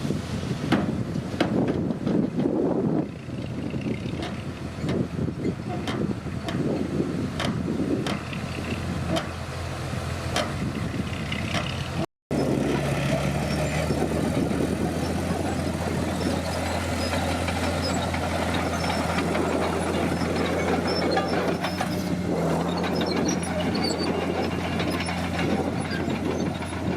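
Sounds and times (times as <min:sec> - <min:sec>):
bulldozer diesel engine running: 0:00.3 - 0:26.9.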